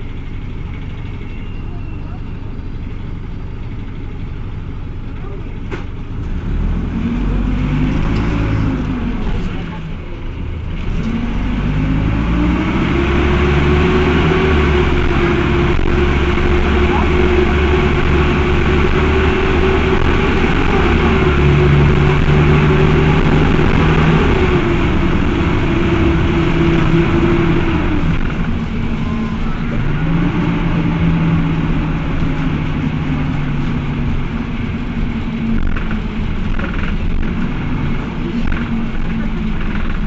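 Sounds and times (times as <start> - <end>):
diesel bus engine running: 0.0 - 40.0.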